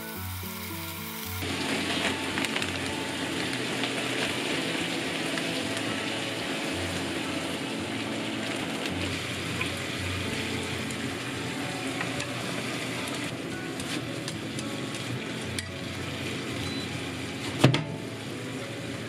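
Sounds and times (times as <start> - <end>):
meat sizzling in a frying pan: 0.0 - 18.3.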